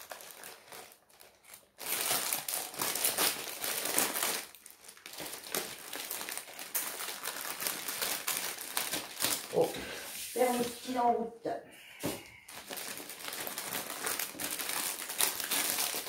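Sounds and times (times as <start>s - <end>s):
plastic packaging crinkling: 0.0s - 9.8s, 12.2s - 16.0s.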